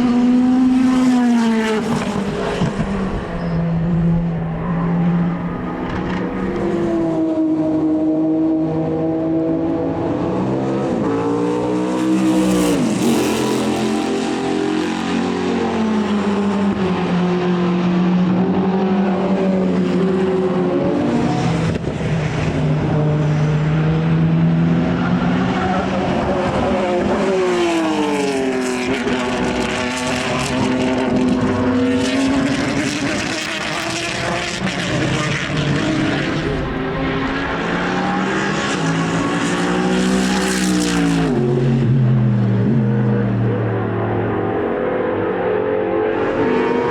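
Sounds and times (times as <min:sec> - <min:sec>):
racing car engines accelerating: 0:00.0 - 0:46.9.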